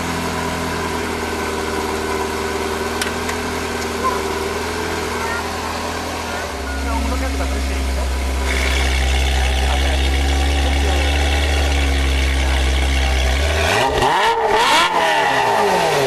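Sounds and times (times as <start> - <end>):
loud car engine idling and revving: 0.0 - 16.0.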